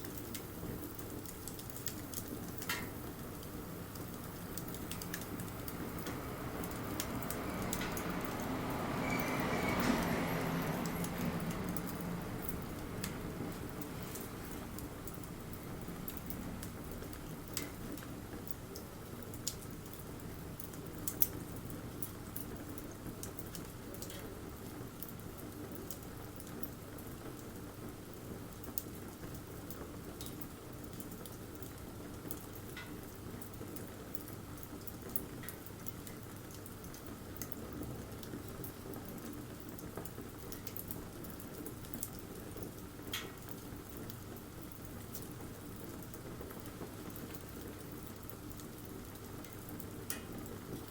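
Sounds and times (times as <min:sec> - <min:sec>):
campfire rushing: 0:00.0 - 0:50.9
fire crackles and pops: 0:00.0 - 0:50.9.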